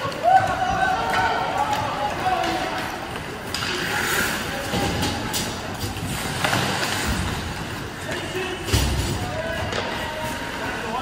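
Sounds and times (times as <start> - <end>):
skates scraping across ice: 0.0 - 11.0.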